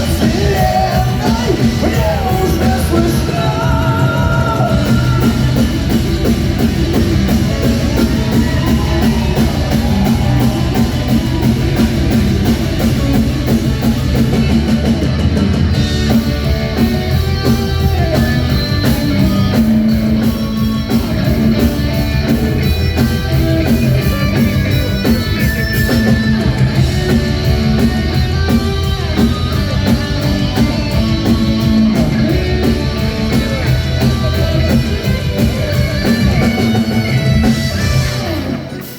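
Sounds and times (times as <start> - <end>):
heavy metal band playing: 0.0 - 38.9.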